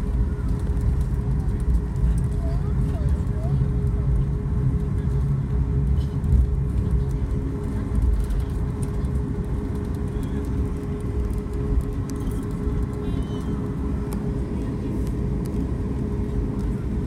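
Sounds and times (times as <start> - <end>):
jet engines droning in cabin: 0.0 - 17.0.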